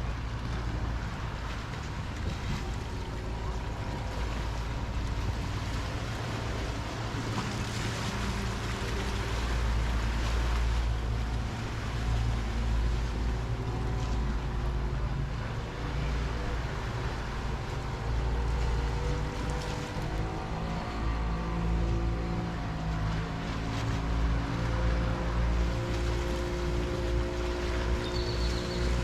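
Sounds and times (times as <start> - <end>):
motorboat engine humming: 0.0 - 29.0
small waves washing: 0.0 - 29.0.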